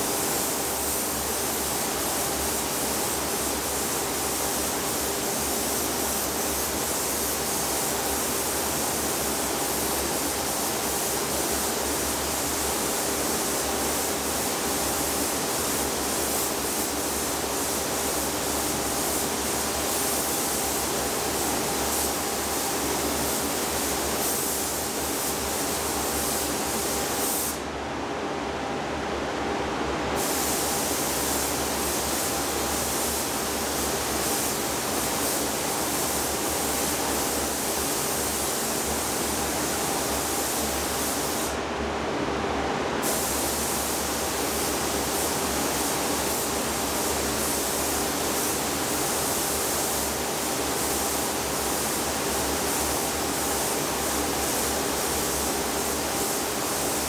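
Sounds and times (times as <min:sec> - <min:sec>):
paint spray gun hissing: 0:00.0 - 0:27.6, 0:30.2 - 0:41.6, 0:43.0 - 0:57.0.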